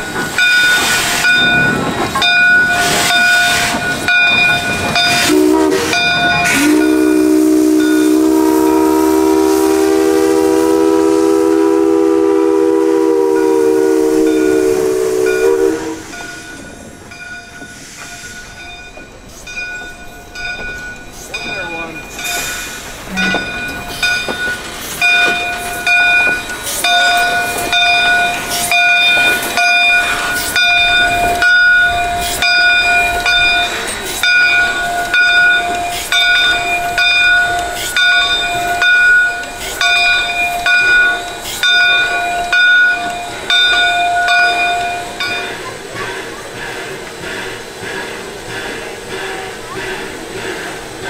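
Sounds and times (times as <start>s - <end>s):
locomotive bell ringing: 0.0s - 46.3s.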